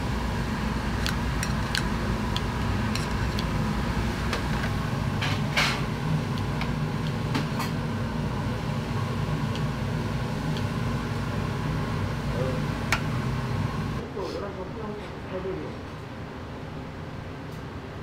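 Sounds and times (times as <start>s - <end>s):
kitchen machinery humming: 0.0s - 16.2s.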